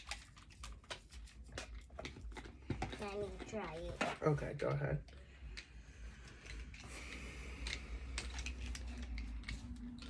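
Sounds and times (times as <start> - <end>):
plastic toys clicking and scraping: 0.0 - 10.0.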